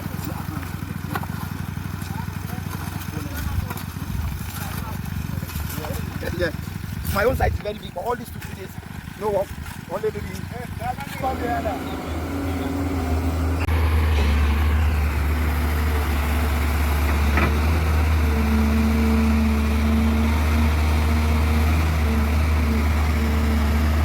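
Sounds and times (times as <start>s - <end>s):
diesel engine humming: 0.0s - 8.0s, 8.7s - 24.0s.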